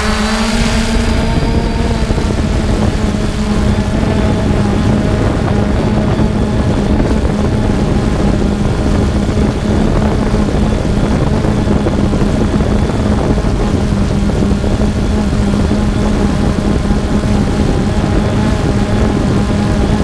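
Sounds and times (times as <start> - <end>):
drone propellers whirring: 0.0 - 20.0.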